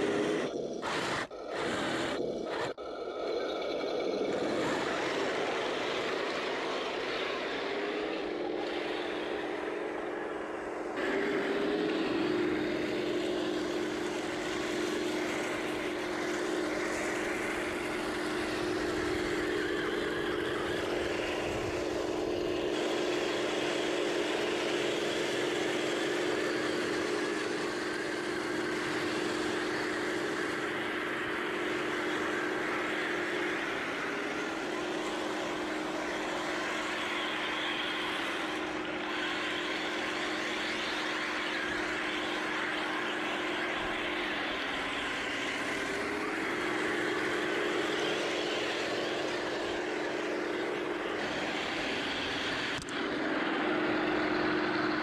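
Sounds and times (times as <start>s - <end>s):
electric drive and metal tracks: 0.0s - 55.0s.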